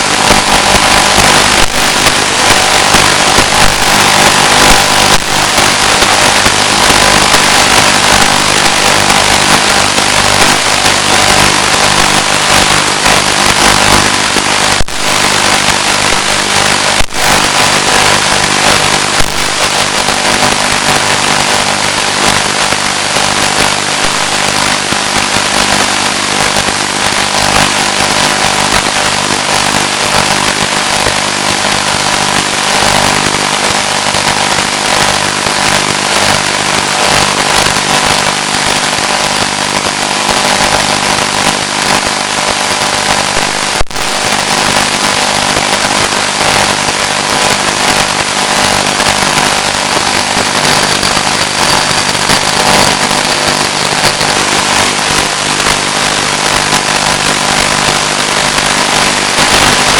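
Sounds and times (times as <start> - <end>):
steady hiss with low buzz: 0.0 - 59.9.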